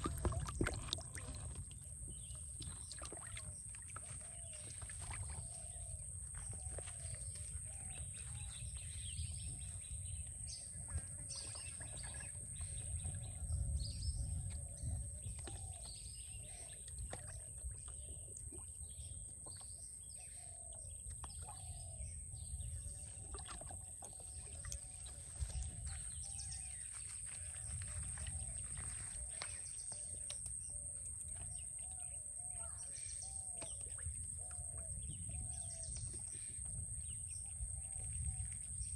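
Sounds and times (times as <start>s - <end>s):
birds calling and chirping: 0.0s - 38.9s.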